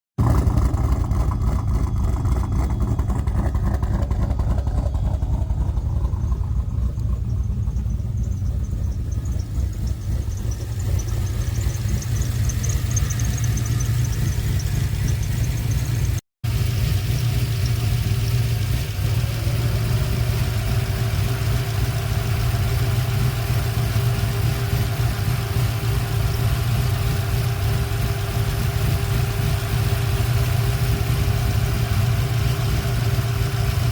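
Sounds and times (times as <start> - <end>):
car engine idling: 0.2 - 33.9
faint steady whine: 1.7 - 33.9.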